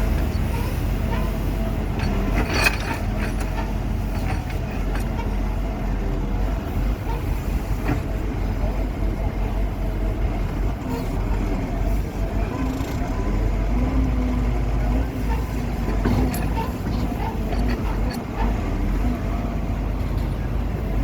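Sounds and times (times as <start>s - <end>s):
heavy machine engine rumbling: 0.0s - 21.0s.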